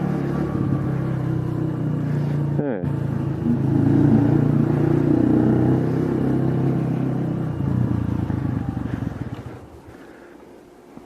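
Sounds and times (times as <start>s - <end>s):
vehicle engine pulsing: 0.0s - 11.0s.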